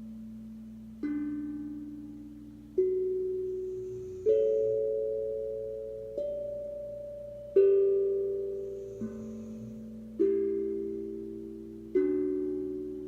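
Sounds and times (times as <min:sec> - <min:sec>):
steel tongue drum notes: 0:00.0 - 0:13.0.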